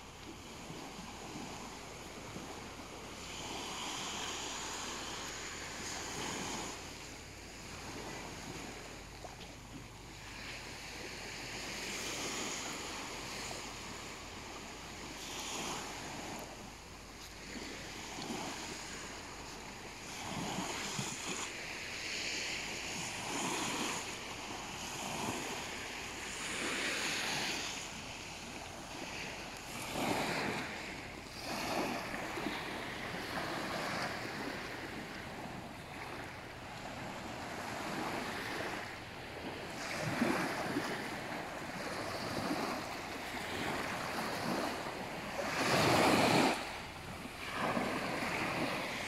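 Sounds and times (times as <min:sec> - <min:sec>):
small waves on sandy beach: 0:00.0 - 0:49.0
wind: 0:00.0 - 0:49.0.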